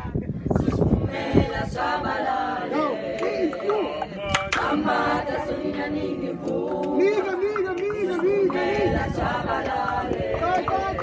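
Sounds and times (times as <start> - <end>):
group singing a cappella: 0.5 - 11.0.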